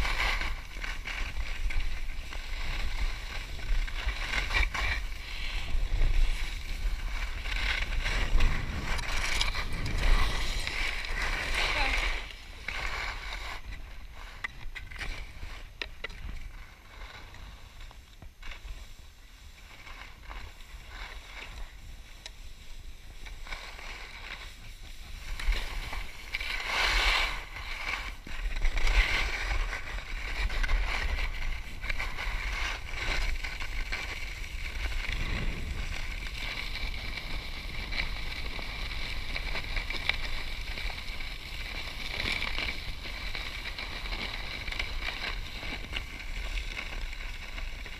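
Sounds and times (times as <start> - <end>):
skis scraping over packed snow: 0.0 - 47.9
wind rumbling on microphone: 0.0 - 47.9.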